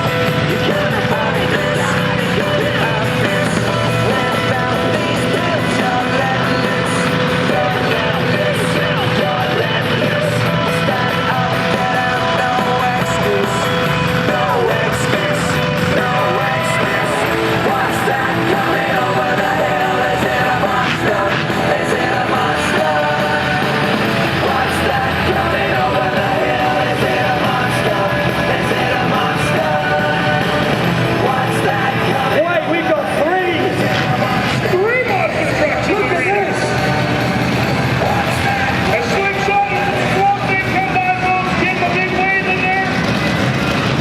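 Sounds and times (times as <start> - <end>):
rock music with singing: 0.0 - 44.0.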